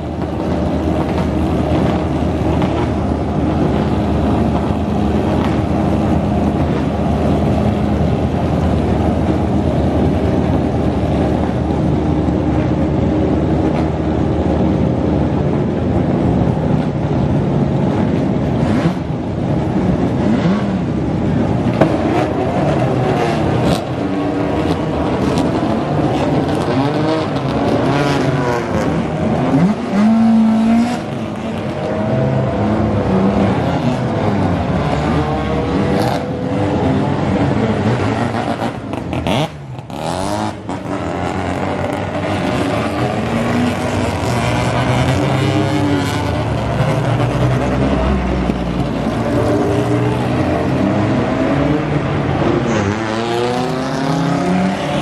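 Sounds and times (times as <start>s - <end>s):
racing car engines: 0.0s - 55.0s.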